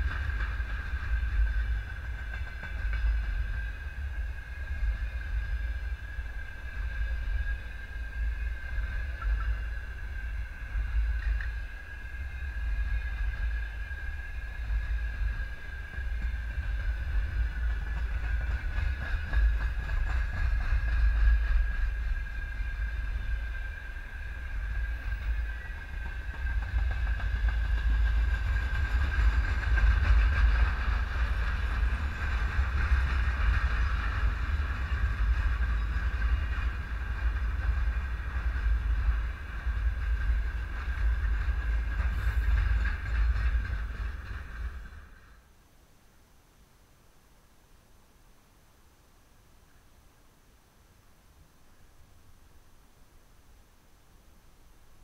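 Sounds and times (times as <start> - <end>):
clicking at rail joints: 0.0 - 45.4
train wheels rumbling on track: 0.0 - 45.6.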